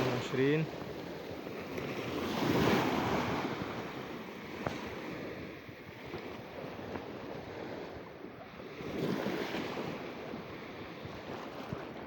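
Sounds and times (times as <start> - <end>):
small waves washing ashore: 0.0 - 12.0
wind on microphone: 0.0 - 12.0.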